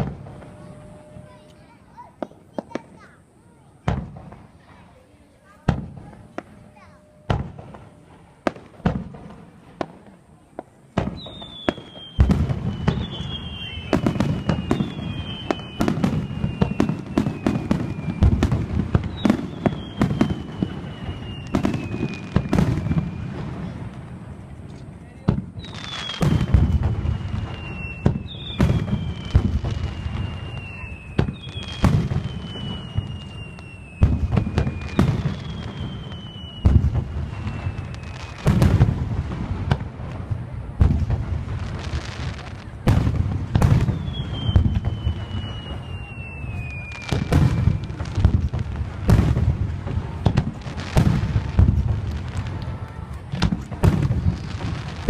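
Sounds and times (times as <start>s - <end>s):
descending firework whistles: 0.0s - 55.0s
fireworks booming: 0.0s - 55.0s.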